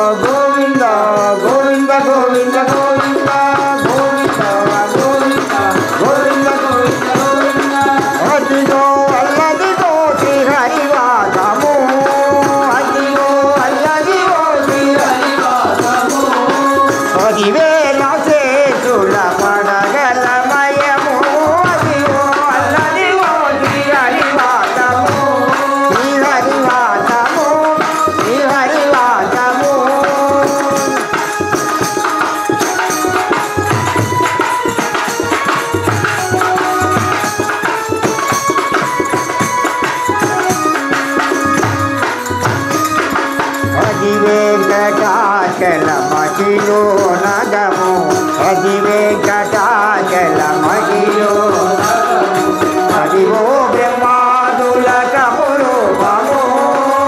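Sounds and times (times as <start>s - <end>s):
drums keeping steady rhythm: 0.0s - 57.0s
jingling hand clapper: 0.0s - 57.0s
men singing: 0.0s - 57.0s.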